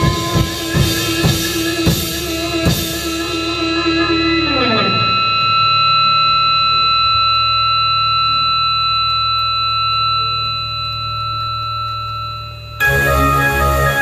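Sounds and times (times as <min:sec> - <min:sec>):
high electronic tone: 0:00.0 - 0:14.0
sound system low hum: 0:00.0 - 0:14.0.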